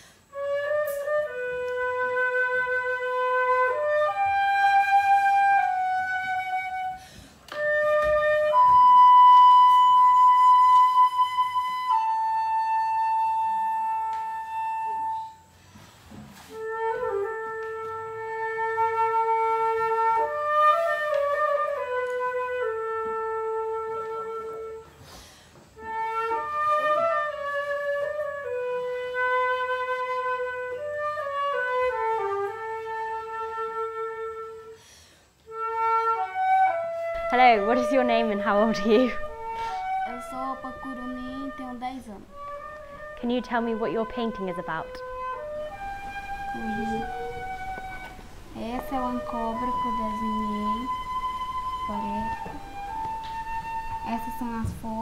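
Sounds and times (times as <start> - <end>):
wooden flute melody: 0.0 - 55.0.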